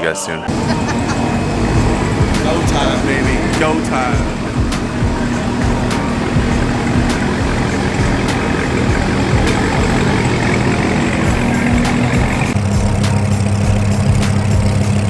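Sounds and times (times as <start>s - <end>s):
car engine running: 0.5s - 15.0s.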